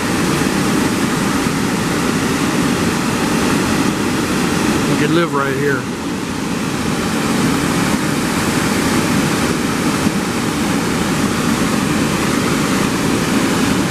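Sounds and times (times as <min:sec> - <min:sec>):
waterfall pouring over rock: 0:00.0 - 0:13.9.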